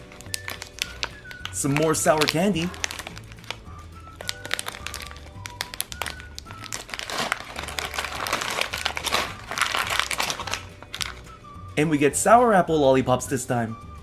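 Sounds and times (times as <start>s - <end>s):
plastic wrappers crinkling: 0.0s - 11.4s
background music: 0.0s - 14.0s.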